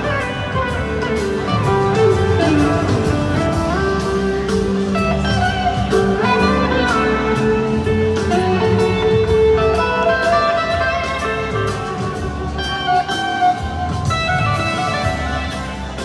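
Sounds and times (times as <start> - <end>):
drums with cymbal beat: 0.0 - 16.0
electric guitar lines: 0.0 - 16.0.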